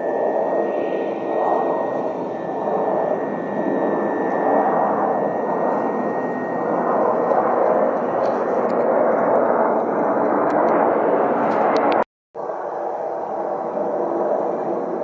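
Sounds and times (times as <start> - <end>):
high jet whine: 0.0 - 15.0
jet engine rush: 0.0 - 15.0.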